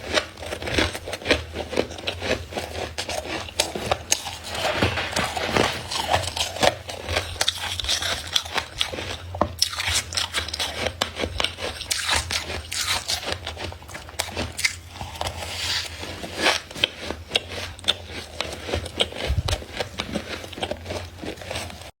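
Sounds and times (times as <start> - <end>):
frost being scraped and crunched: 0.0 - 21.9.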